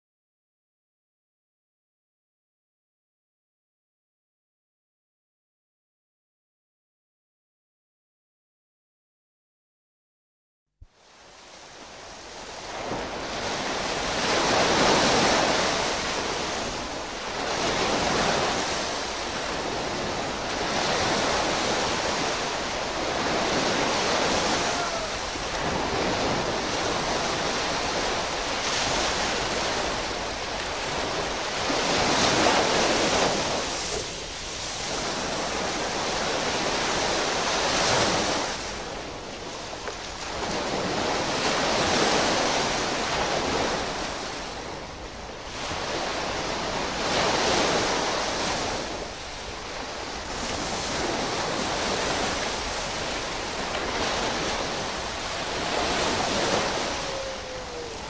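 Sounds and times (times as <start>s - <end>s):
ocean waves breaking: 11.0s - 58.0s.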